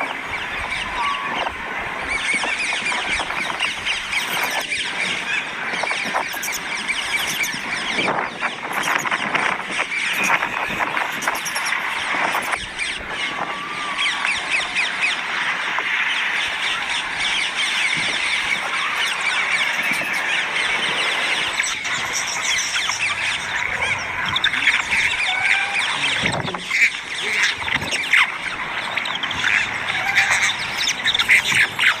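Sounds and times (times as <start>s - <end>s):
parrots squawking and screeching: 0.4s - 32.0s.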